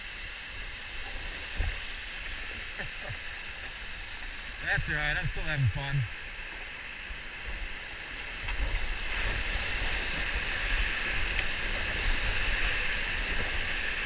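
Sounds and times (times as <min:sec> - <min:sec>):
whitewater rapids rushing: 0:00.0 - 0:14.0.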